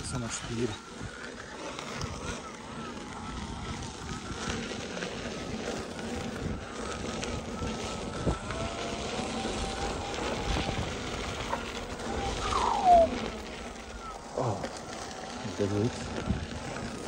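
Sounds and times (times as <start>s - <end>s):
thin motor whine: 0.0s - 17.0s
wind noise: 0.0s - 17.0s.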